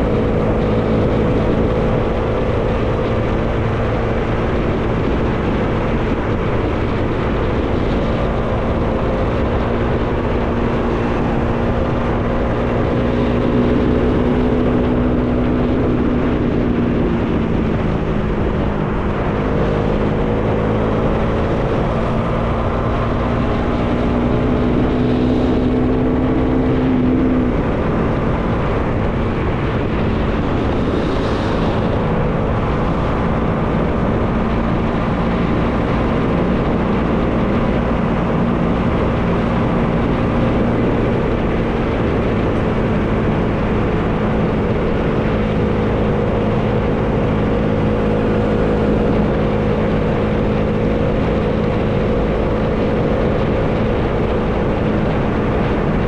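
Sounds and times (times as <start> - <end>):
motorcycle engine running: 0.0 - 56.0
wind rushing: 0.0 - 56.0.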